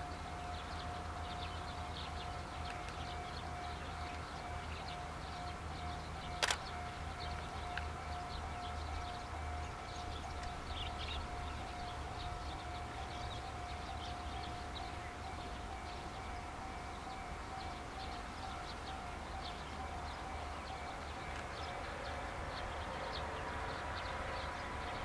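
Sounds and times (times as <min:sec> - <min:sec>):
level-crossing warning tone: 0:00.0 - 0:25.0.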